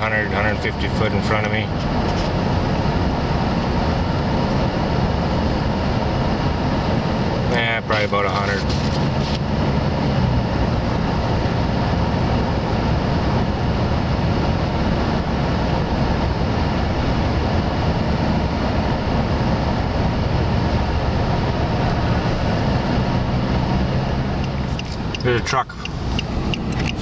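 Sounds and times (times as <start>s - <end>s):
engine hum: 0.0s - 27.0s
rush of tyres and wind: 0.0s - 27.0s.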